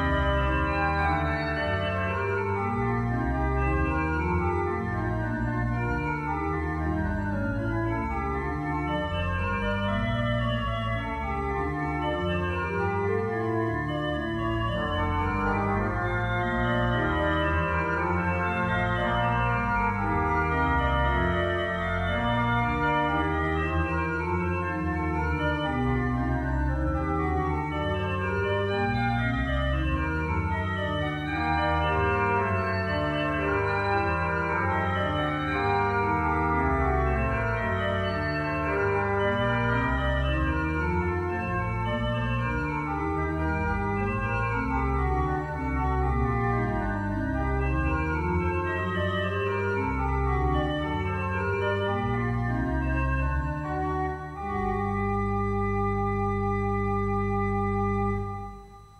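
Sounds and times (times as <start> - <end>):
pipe organ playing: 0.0 - 58.9.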